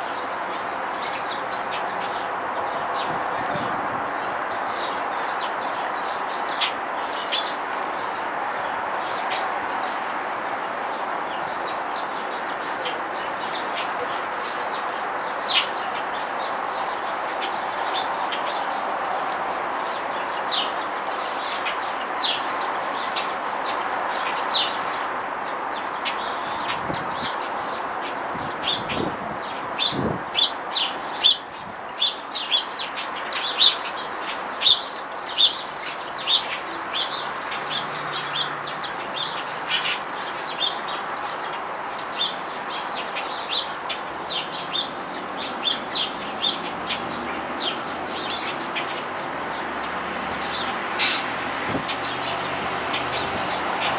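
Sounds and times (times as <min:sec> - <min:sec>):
sparrows chirping: 0:00.0 - 0:53.9
steady background noise: 0:00.0 - 0:53.9.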